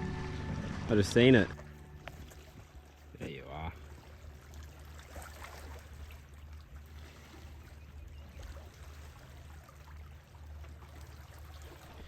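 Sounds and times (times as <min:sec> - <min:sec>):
small waves at shoreline: 0:01.2 - 0:12.0.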